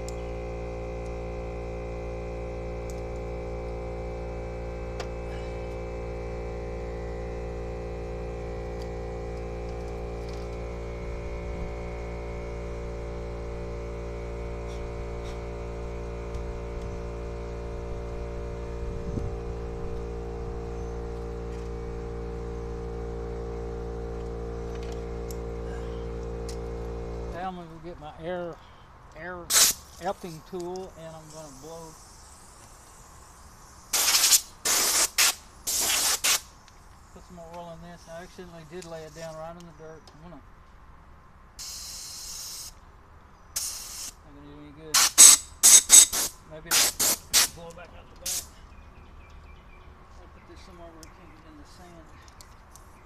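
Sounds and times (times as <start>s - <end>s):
air compressor humming: 0.0s - 28.4s, 29.2s - 39.6s, 43.6s - 48.6s.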